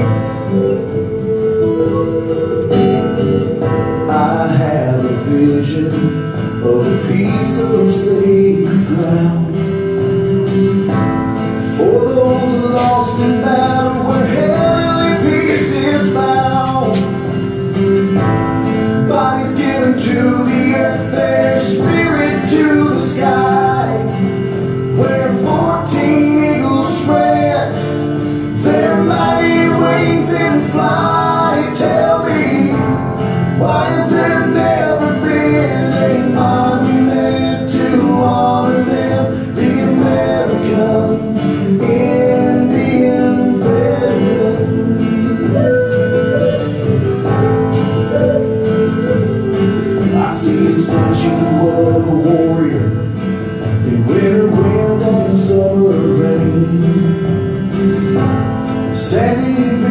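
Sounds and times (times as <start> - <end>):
singing over guitar: 0.0 - 59.9.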